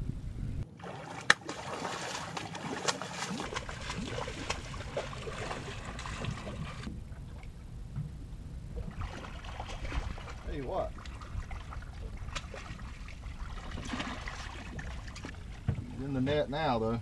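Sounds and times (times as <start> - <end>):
water lapping against boat hull: 0.7 - 16.4.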